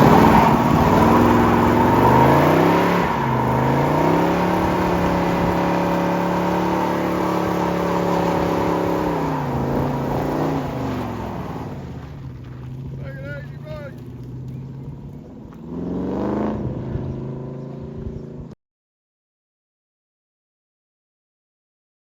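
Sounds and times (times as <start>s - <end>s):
vehicle engine revving: 0.0s - 18.6s.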